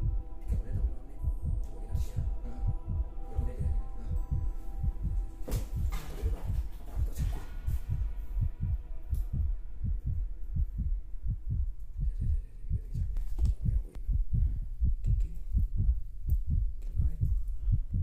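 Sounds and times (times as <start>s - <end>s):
low dull thumps: 0.0s - 18.0s.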